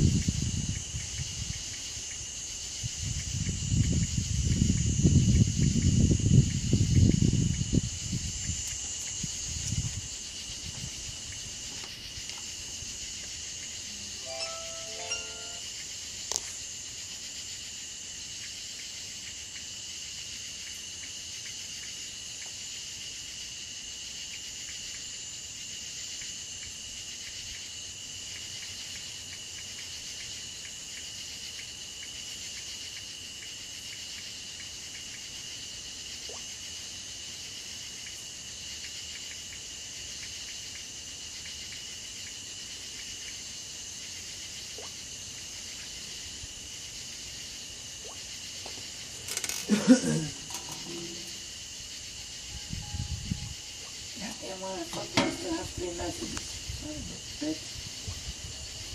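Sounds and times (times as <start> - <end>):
insects buzzing: 0.0 - 58.9.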